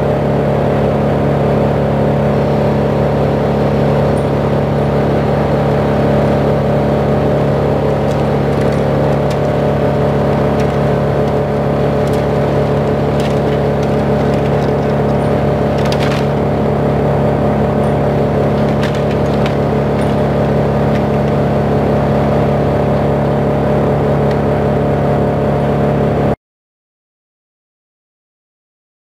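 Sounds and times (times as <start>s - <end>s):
diesel engine humming: 0.0s - 26.4s.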